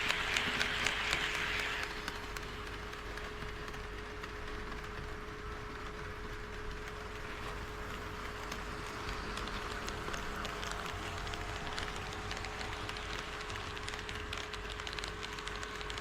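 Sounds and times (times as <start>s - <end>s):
model train hum: 0.0s - 16.0s
wheels clicking over rail joints: 0.0s - 16.0s.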